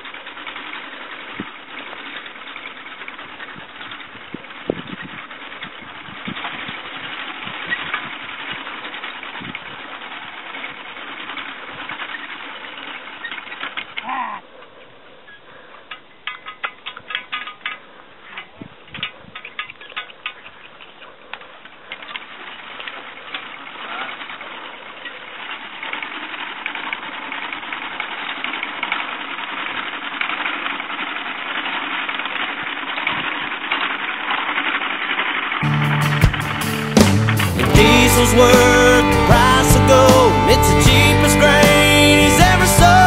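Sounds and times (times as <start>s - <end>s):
hay mower clattering: 0.0s - 14.2s, 15.6s - 43.0s.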